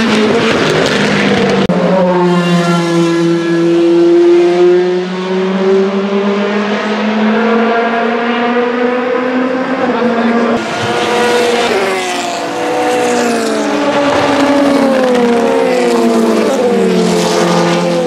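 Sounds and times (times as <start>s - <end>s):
racing engine at high revs: 0.0s - 18.0s.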